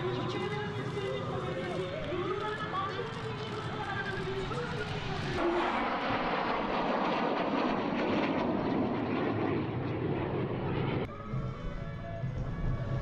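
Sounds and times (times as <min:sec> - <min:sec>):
jet fighters flying past: 0:00.0 - 0:11.1.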